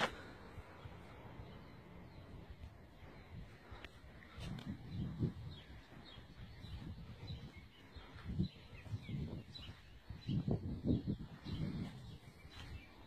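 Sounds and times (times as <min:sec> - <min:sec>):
low rumbling on microphone: 0:00.0 - 0:13.0
faint bird chirps: 0:00.4 - 0:13.0.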